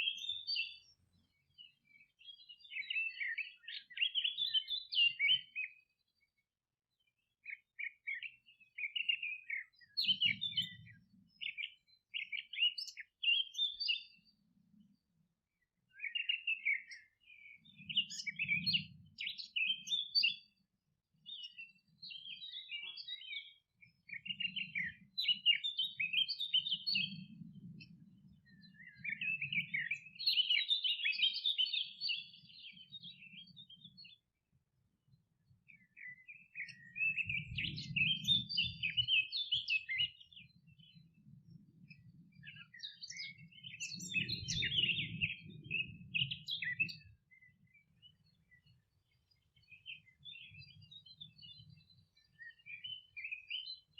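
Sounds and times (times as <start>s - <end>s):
birds chirping and twittering: 0.0s - 53.9s.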